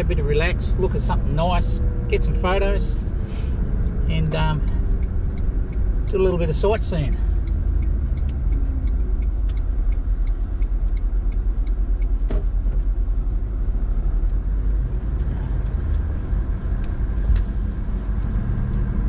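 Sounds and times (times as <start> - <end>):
engine and road rumble in cabin: 0.0 - 19.0.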